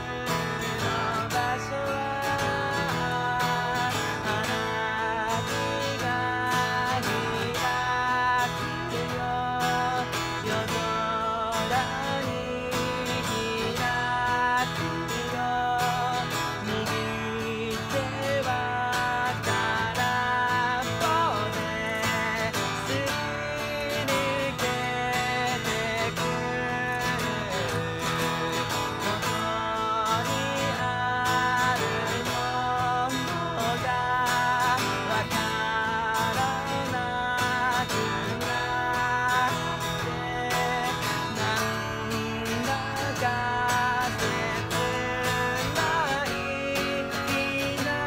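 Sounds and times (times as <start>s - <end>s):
acoustic guitar strumming: 0.0s - 48.0s
man singing: 0.0s - 48.0s.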